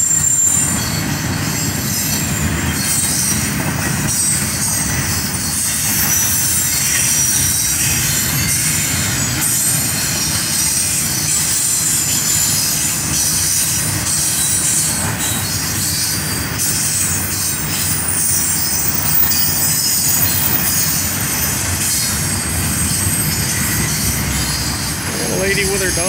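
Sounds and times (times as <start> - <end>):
high-pitched wheel squeal: 0.0 - 26.0
train wheels rumbling on rail: 0.0 - 26.0.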